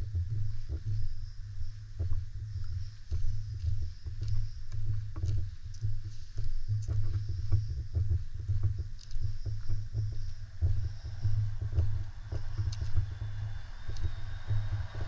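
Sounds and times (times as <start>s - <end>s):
small rattles and clicks: 0.1s - 15.0s.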